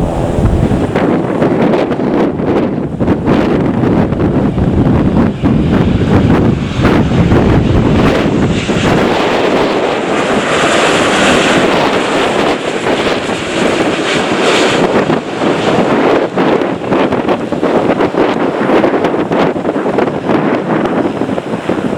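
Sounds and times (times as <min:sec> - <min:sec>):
jet engines roaring: 0:00.0 - 0:21.9
wind buffeting microphone: 0:00.0 - 0:21.9.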